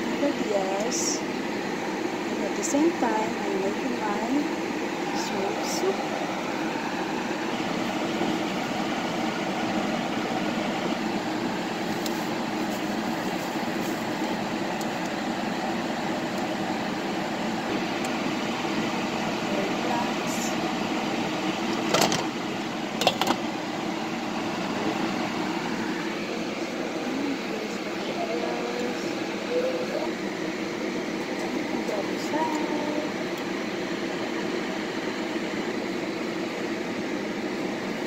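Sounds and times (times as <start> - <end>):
fan rushing noise: 0.0 - 38.0.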